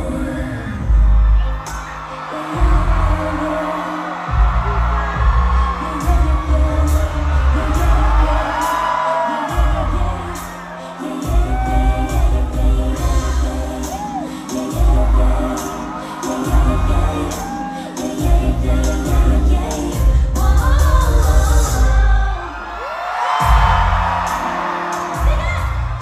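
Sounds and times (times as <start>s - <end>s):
women singing: 0.0s - 1.1s, 1.7s - 25.4s
bass-driven backing track: 0.0s - 3.6s, 4.2s - 22.4s, 23.4s - 26.0s.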